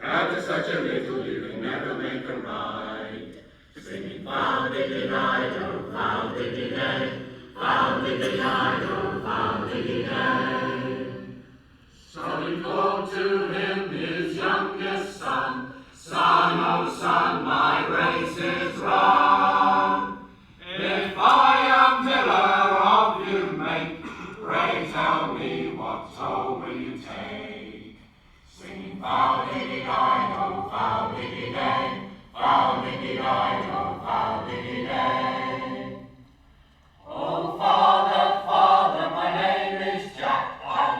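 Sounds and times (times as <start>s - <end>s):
choir singing: 0.0s - 36.4s, 37.0s - 40.9s.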